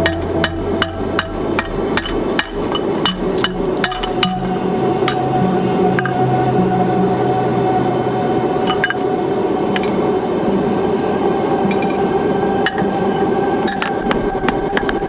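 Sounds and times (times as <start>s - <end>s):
forge roar: 0.0s - 14.8s.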